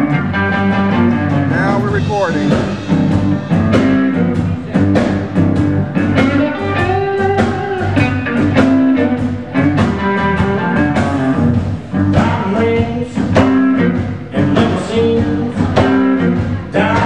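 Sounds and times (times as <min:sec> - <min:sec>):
bass guitar: 0:00.0 - 0:17.0
electric guitar: 0:00.0 - 0:17.0
live blues band playing: 0:00.0 - 0:17.0
steady drum beat: 0:01.3 - 0:17.0.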